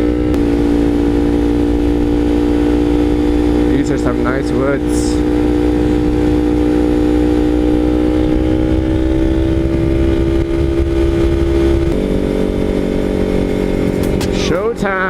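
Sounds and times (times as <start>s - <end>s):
motorcycle engine under throttle: 0.0s - 15.0s
wind rush on microphone: 0.0s - 15.0s.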